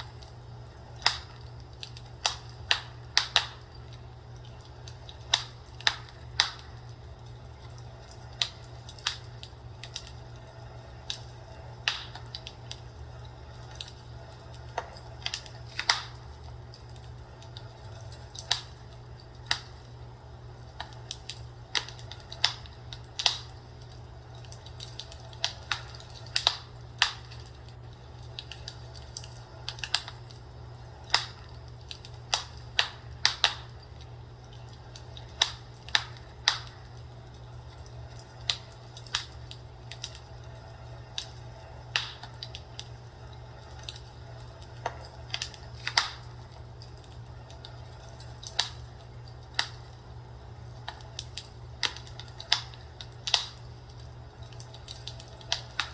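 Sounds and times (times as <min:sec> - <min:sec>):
steady low hum: 0:00.0 - 0:55.9
wood fire crackling: 0:00.0 - 0:55.9.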